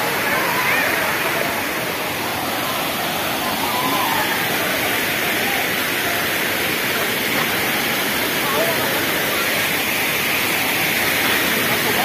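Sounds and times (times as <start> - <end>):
faint voices: 0.0 - 12.0
waterfall rushing: 0.0 - 12.0.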